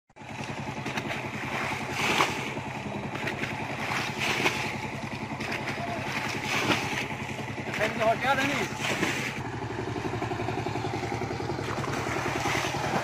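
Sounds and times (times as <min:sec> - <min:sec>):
small engine chugging: 0:00.2 - 0:13.0
water splashing: 0:00.2 - 0:13.0.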